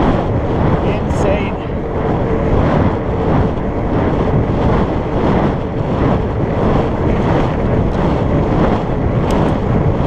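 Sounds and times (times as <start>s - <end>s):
bike tyres rolling on pavement: 0.0s - 10.0s
wind rushing over microphone: 0.0s - 10.0s.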